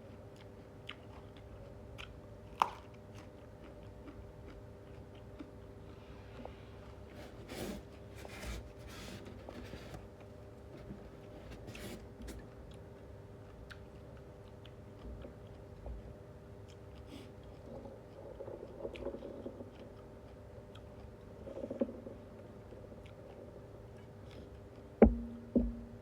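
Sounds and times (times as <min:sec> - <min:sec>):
person chewing: 0:00.0 - 0:08.4, 0:09.0 - 0:25.0
faint steady hum: 0:00.0 - 0:26.0.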